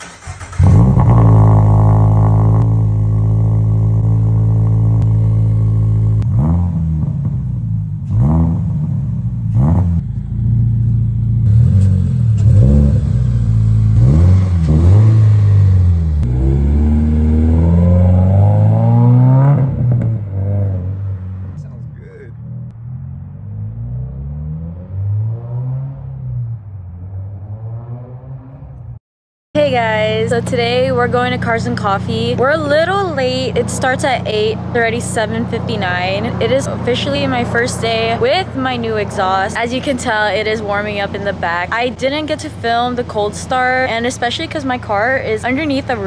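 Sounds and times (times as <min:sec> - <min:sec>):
car engine revving: 0:00.0 - 0:29.0, 0:29.6 - 0:46.0.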